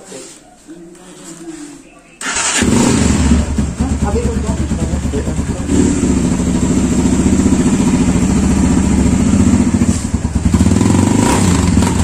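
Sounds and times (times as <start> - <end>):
motorcycle engine idling: 2.3 - 12.0.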